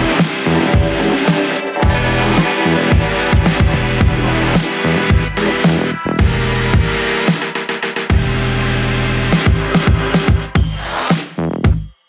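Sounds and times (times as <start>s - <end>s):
electronic music with deep bass: 0.0s - 11.9s.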